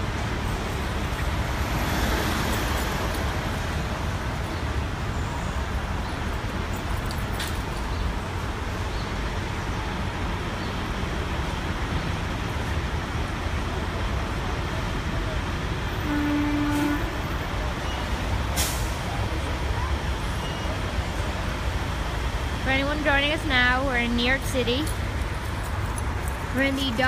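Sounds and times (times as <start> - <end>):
highway traffic: 0.0 - 27.0.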